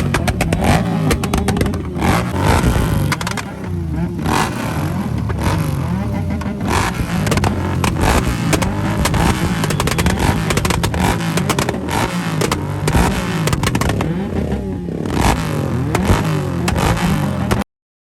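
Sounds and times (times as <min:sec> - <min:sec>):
motorcycles revving: 0:00.0 - 0:17.6
sharp exhaust cracks: 0:00.0 - 0:17.6.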